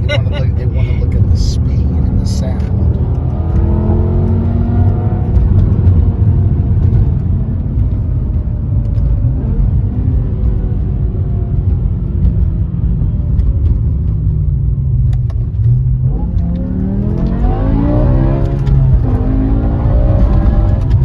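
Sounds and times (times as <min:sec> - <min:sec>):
engine accelerating and revving: 0:00.0 - 0:21.0.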